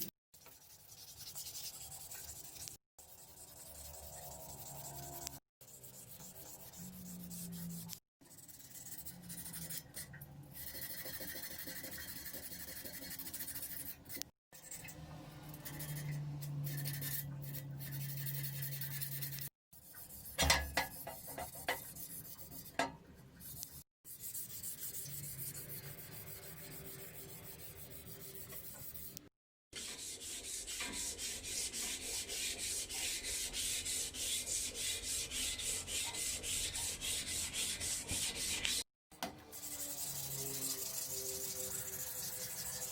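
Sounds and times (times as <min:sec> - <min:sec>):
sandpaper rubbing on metal: 0:00.6 - 0:09.8, 0:10.6 - 0:14.7, 0:15.5 - 0:20.4, 0:23.5 - 0:29.2, 0:29.8 - 0:38.8, 0:39.5 - 0:42.9.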